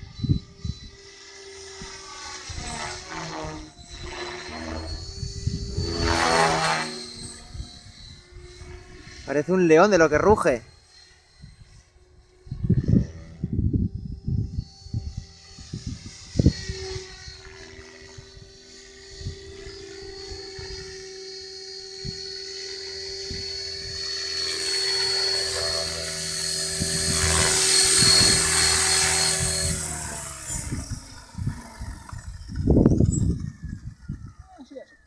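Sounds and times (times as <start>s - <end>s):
rc helicopter whining: 0.0s - 35.0s.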